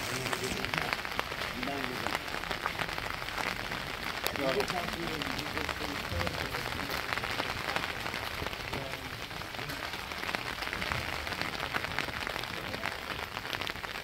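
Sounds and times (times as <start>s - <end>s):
raindrops ticking close by: 0.0s - 14.0s
steady rain falling: 0.0s - 14.0s.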